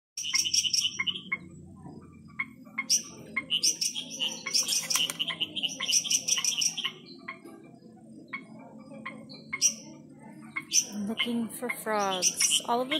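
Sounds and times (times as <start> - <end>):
frogs calling: 0.2 - 12.9.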